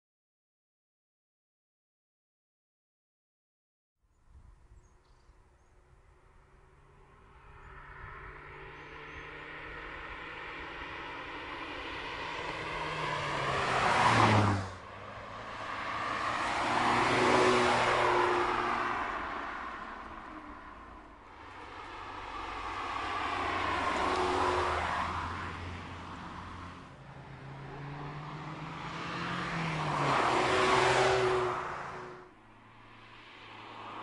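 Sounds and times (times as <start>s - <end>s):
car driving past: 6.2s - 34.0s.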